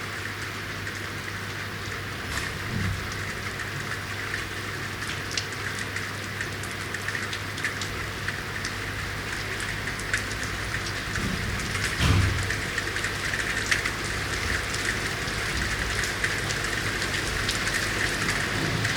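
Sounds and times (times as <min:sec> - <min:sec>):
rain hissing: 0:01.1 - 0:18.9.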